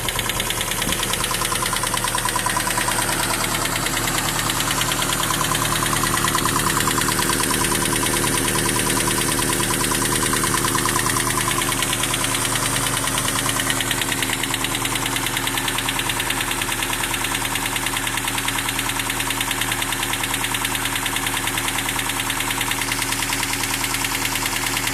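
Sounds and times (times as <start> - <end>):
engine idling: 0.0 - 24.9
rapid even engine clicking: 0.0 - 24.9.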